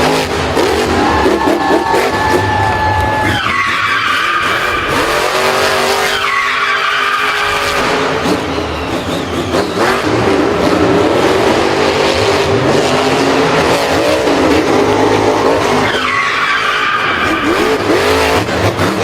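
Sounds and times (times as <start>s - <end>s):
racing engines revving: 0.0s - 19.0s
tyres skidding: 0.0s - 19.0s.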